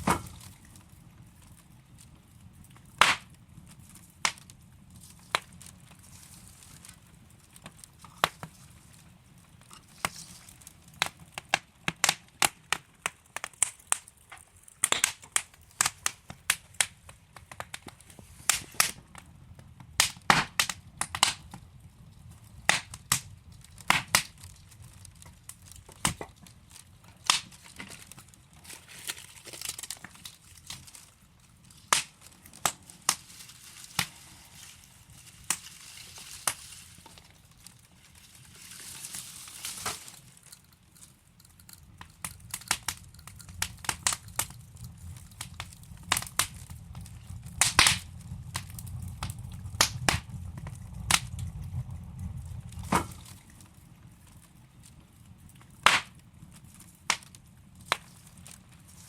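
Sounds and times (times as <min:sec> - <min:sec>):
fire crackling and popping: 0:00.0 - 0:59.0
low rumble of flame: 0:00.0 - 0:59.0.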